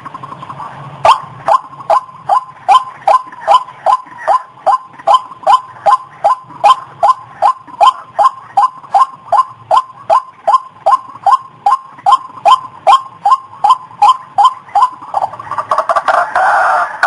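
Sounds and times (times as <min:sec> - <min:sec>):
waterhen calling: 0:01.0 - 0:17.0.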